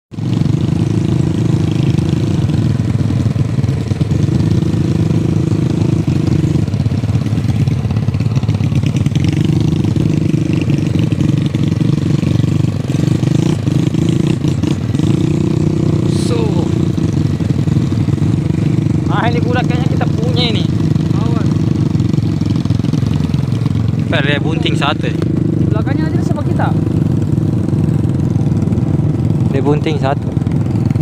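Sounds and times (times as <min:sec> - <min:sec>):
motorcycle engine running: 0:00.1 - 0:31.0.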